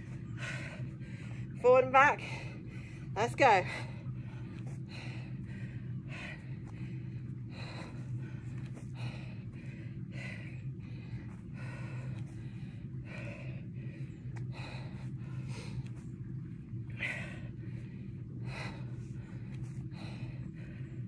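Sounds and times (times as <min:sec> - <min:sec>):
woman breathing hard: 0:00.0 - 0:01.6, 0:02.2 - 0:21.0
steady low hum: 0:00.0 - 0:21.0.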